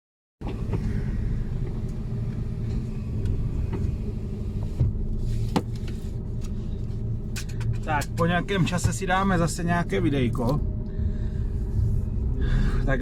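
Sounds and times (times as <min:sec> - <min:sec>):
truck diesel engine rumble: 0:00.4 - 0:13.0.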